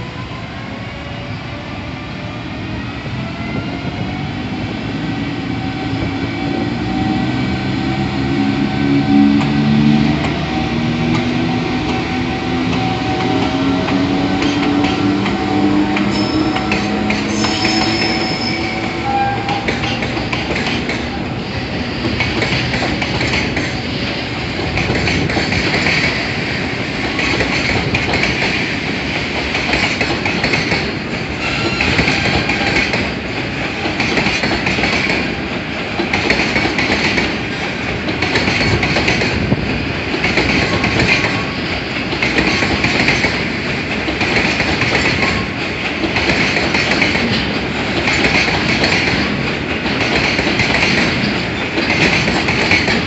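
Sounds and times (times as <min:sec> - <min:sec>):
train wheels clicking on rails: 0:03.1 - 0:53.0.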